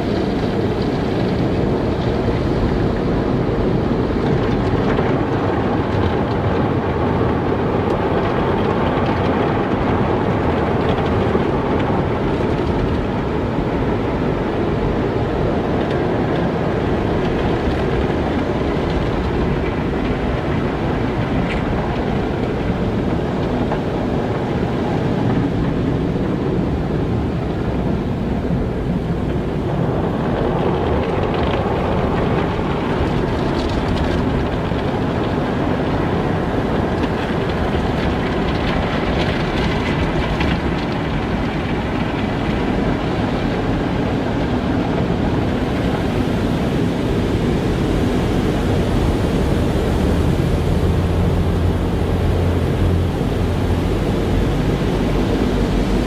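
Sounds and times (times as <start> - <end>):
car wash low rumble: 0.0 - 56.0.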